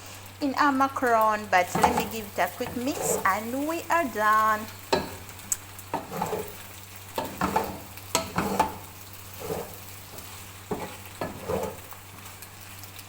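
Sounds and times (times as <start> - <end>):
light sizzle: 0.0 - 13.0
spoon scraping a frying pan: 1.6 - 12.2.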